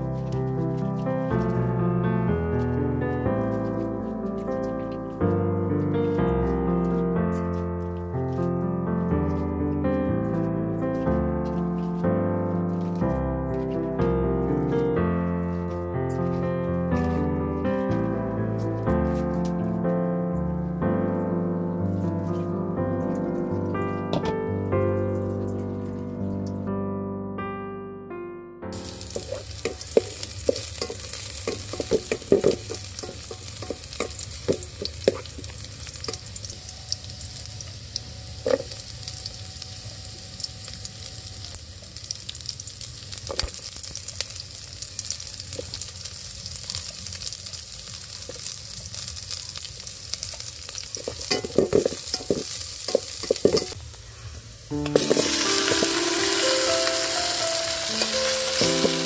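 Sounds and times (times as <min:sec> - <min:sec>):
garlic and onion sizzling: 0:00.0 - 0:19.8, 0:28.7 - 0:59.0.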